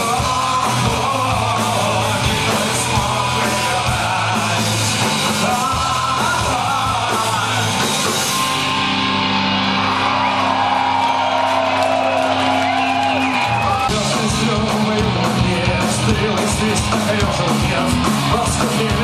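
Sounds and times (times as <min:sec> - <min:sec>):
punk rock band playing: 0:00.0 - 0:19.0.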